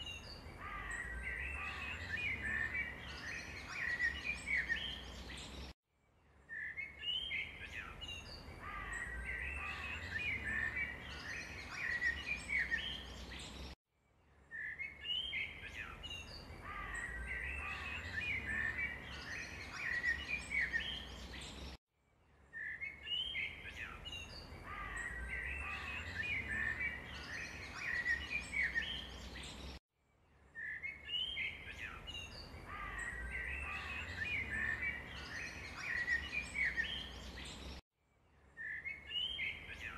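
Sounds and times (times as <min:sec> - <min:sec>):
small birds chirping: 0:00.0 - 0:05.8, 0:06.4 - 0:13.8, 0:14.4 - 0:21.8, 0:22.5 - 0:29.8, 0:30.4 - 0:37.8, 0:38.5 - 0:39.9.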